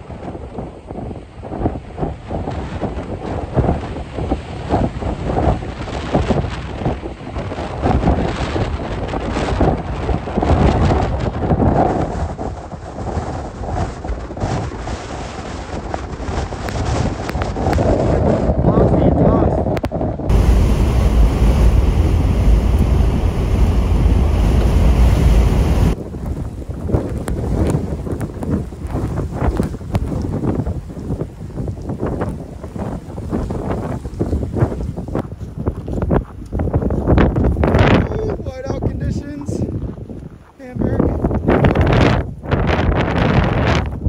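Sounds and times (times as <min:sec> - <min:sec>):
surf breaking on shore: 0:00.0 - 0:39.6
blizzard wind buffeting microphone: 0:00.0 - 0:44.0.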